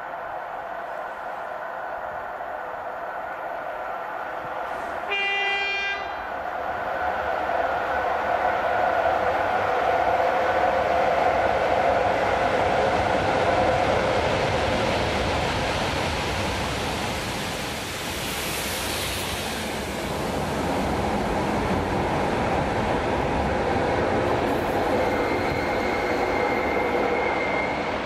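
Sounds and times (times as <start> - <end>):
train wheels rumbling on rail: 3.7 - 28.0.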